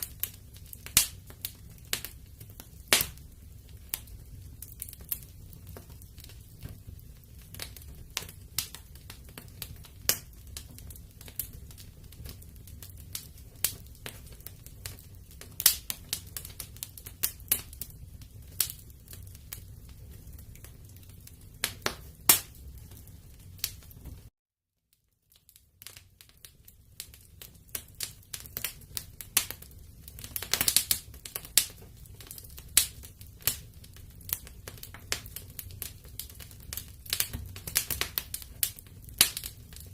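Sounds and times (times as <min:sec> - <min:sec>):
wood fire crackling: 0:00.0 - 0:24.3, 0:24.9 - 0:39.9.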